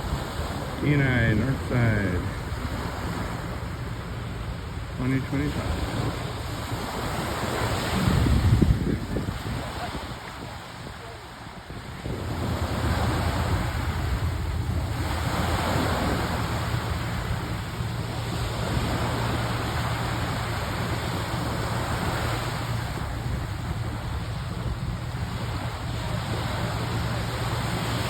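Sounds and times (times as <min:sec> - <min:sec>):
waves washing on shore: 0:00.0 - 0:28.0
wind rumble on microphone: 0:00.0 - 0:28.0.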